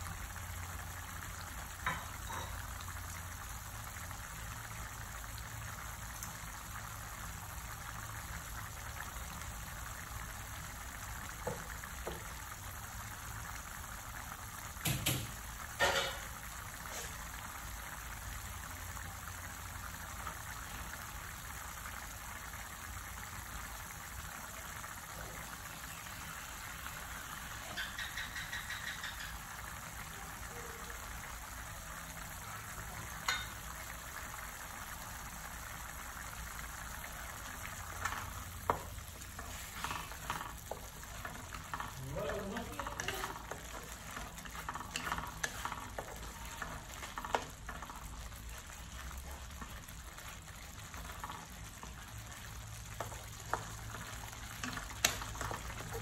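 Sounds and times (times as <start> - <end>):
sauce bubbling and popping: 0.0 - 56.0.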